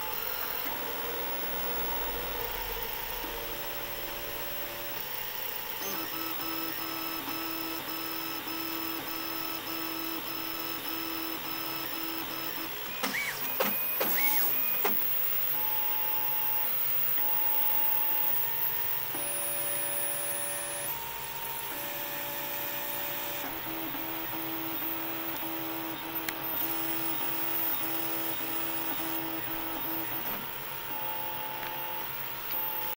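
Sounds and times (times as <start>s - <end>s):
stepper motors whining: 0.0s - 32.9s.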